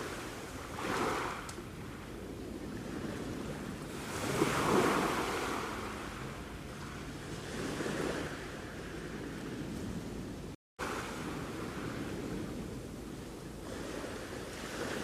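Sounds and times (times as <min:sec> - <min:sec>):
sea waves breaking: 0:00.0 - 0:15.0.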